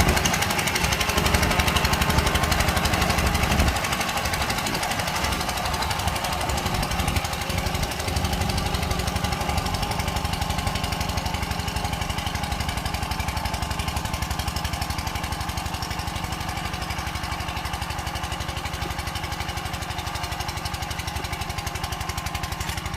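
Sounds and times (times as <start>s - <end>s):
power tiller engine chugging: 0.0s - 22.9s.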